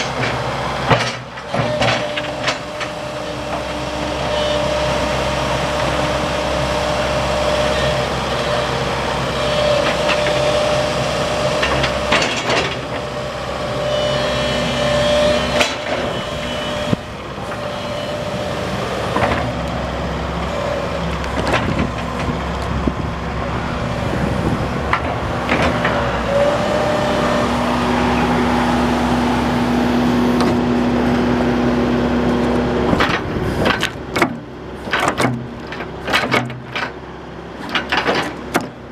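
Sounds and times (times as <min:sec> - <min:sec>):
hydraulic whine: 0:00.0 - 0:36.8
diesel engine running: 0:00.0 - 0:38.9.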